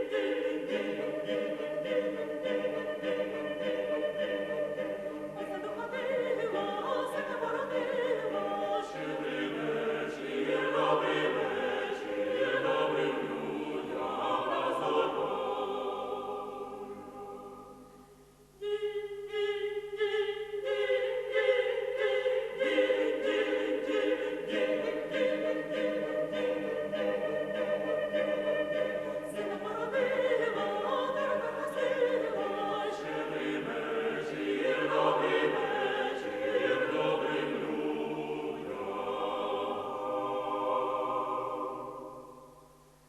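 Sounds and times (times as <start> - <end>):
vocal ensemble singing in harmony: 0.0 - 42.8.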